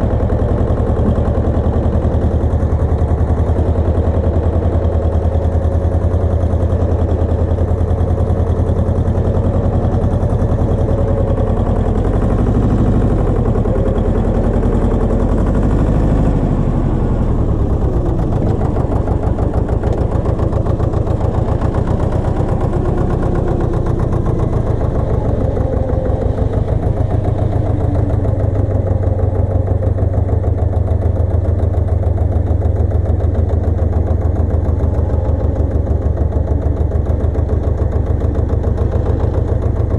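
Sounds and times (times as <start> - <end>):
tractor engine rumbling: 0.0 - 39.9.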